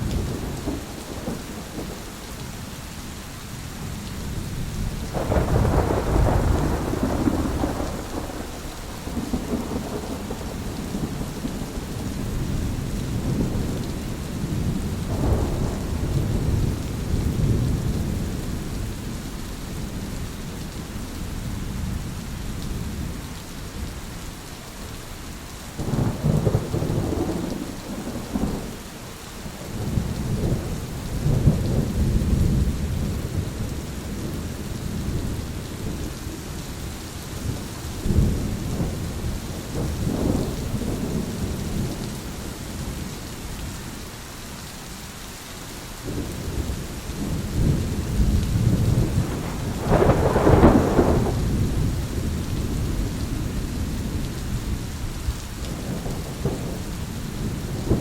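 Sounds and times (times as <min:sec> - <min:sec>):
thunder rumbling: 0:00.0 - 0:02.2, 0:04.3 - 0:20.5, 0:25.8 - 0:28.8, 0:29.4 - 0:43.2, 0:46.1 - 0:58.0
steady rain: 0:00.0 - 0:58.0.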